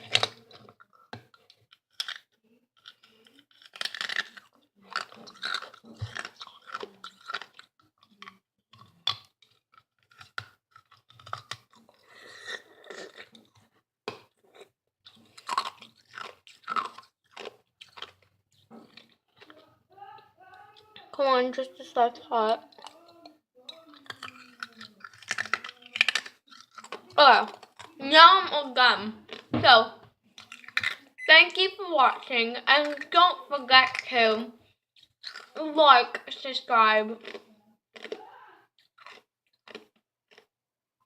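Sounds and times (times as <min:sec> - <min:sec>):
ice being crunched and chewed: 0:00.0 - 0:19.6, 0:22.5 - 0:28.0, 0:29.2 - 0:29.5, 0:30.3 - 0:34.2, 0:35.0 - 0:36.4, 0:37.1 - 0:40.5.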